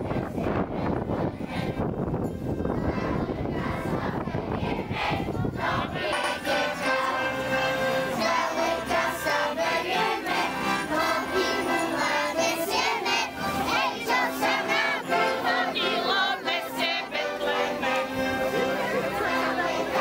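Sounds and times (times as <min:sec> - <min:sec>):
several voices singing: 0:00.0 - 0:02.0, 0:02.8 - 0:20.0
murmur of crowd: 0:00.0 - 0:20.0.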